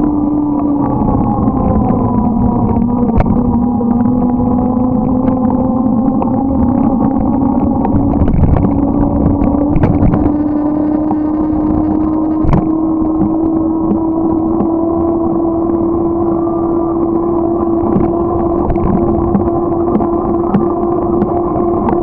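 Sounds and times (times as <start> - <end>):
low rushing rumble: 0.0 - 22.0
motorcycle engine running: 0.0 - 22.0
scattered clicks: 1.8 - 22.0.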